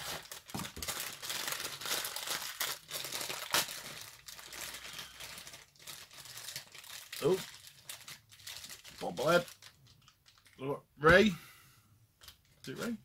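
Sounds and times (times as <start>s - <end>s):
packing material crinkling: 0.0s - 10.6s, 12.2s - 13.0s.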